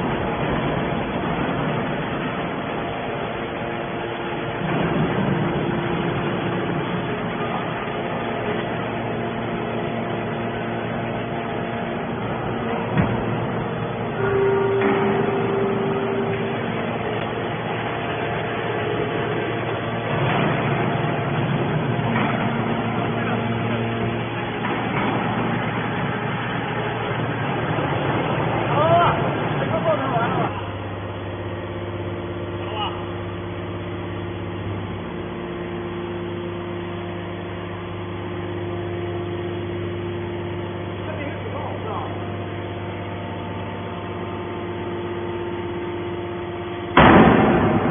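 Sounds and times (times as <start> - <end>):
faint steady whine: 0.0 - 47.9
hydraulic baler mechanical drone: 0.0 - 47.9.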